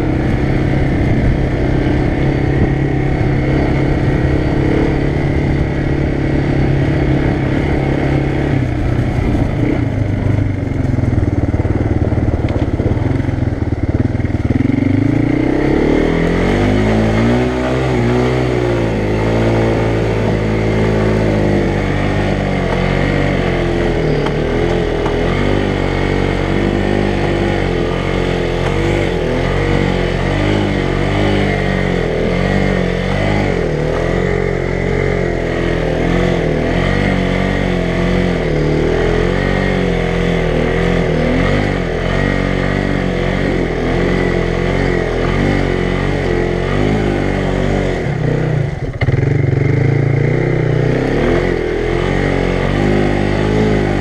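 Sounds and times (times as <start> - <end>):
quad engine revving: 0.0 - 54.0.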